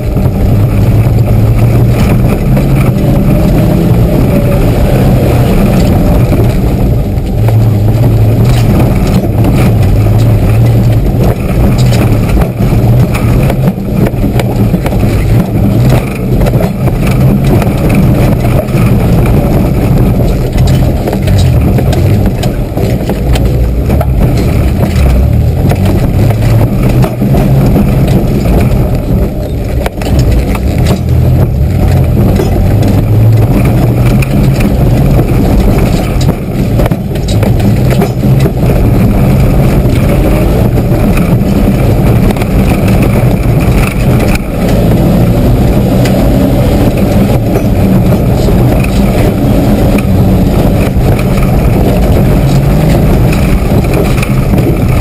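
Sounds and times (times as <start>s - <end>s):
body knocks and rattles: 0.0s - 55.0s
car engine under load: 0.0s - 55.0s.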